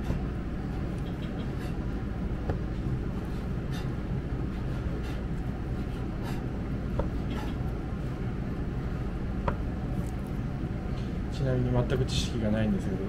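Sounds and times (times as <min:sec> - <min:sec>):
kitchen machinery humming: 0:00.0 - 0:13.0.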